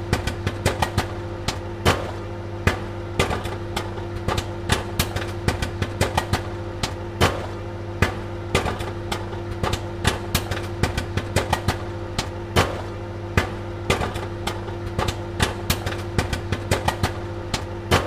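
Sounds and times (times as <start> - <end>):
popcorn popping: 0.0 - 18.0
steady low hum: 0.0 - 18.0.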